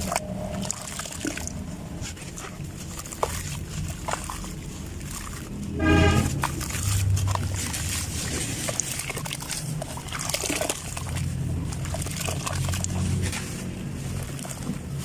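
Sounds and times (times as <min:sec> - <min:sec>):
earth clumps crumbling and crunching: 0:00.0 - 0:15.0.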